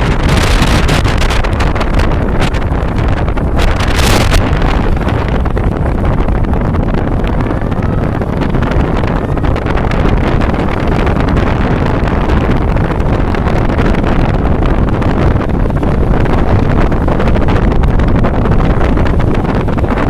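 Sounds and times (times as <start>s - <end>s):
ocean waves rushing: 0.0s - 18.1s
wind noise on microphone: 0.0s - 20.0s.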